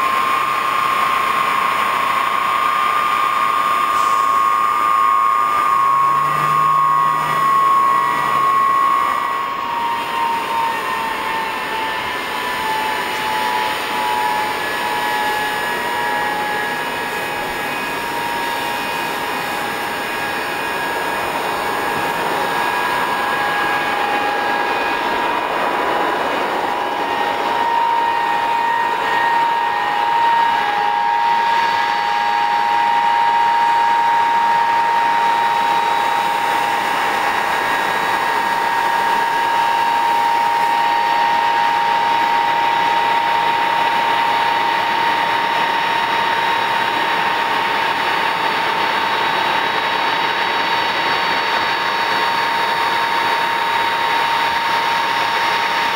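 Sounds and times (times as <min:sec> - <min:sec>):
jet noise rushing: 0:00.0 - 0:55.7
jet engines high whine: 0:00.0 - 0:55.9.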